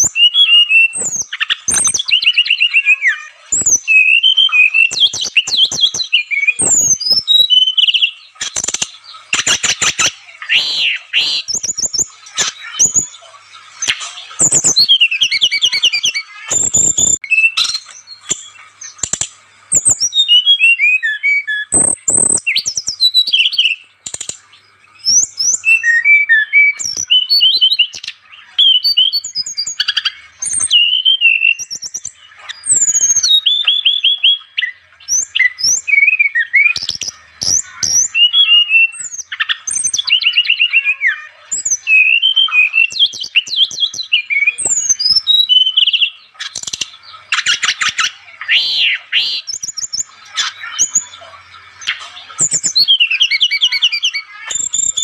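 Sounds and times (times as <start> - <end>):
songbird singing trills: 0.0 - 55.0.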